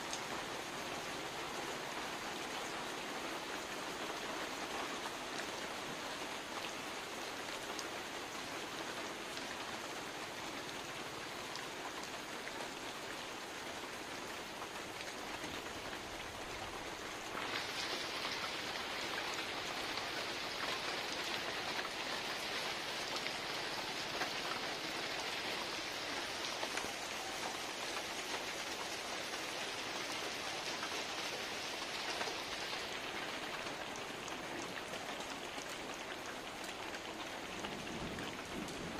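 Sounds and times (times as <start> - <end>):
heavy rain on water: 0.0 - 38.9.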